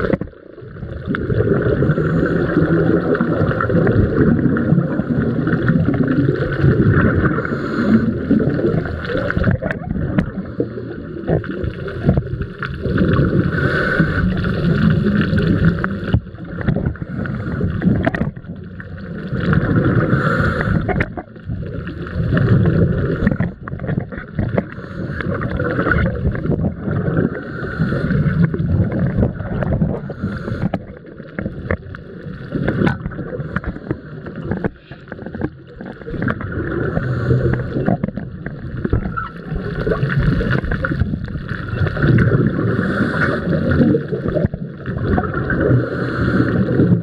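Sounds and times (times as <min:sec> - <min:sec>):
muffled water sloshing and gurgling: 0:00.0 - 0:47.0.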